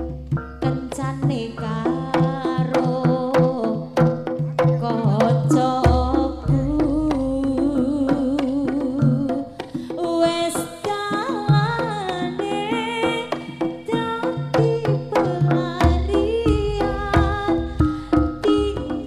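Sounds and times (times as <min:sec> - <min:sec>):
gamelan ensemble: 0:00.0 - 0:19.0
hand drum strokes: 0:00.0 - 0:19.0
woman singing with vibrato: 0:00.6 - 0:04.1, 0:04.8 - 0:19.0.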